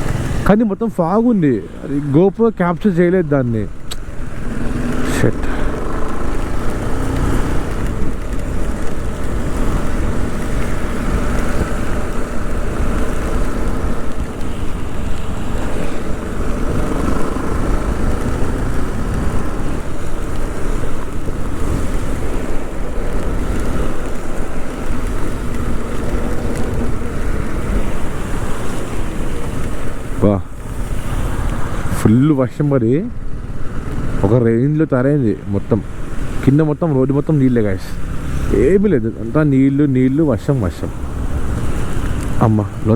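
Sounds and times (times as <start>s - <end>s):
motorcycle engine drone: 0.0s - 42.9s
wind rushing over microphone: 0.0s - 42.9s.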